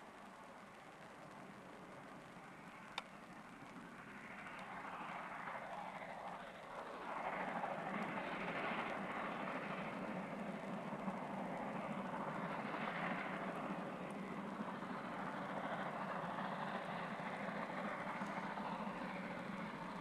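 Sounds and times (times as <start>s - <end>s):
distant steam locomotive exhaust: 2.3s - 20.0s.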